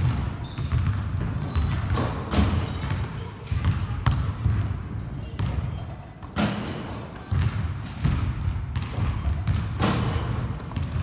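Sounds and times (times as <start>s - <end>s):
basketballs bouncing on wooden floor: 0.0s - 11.0s.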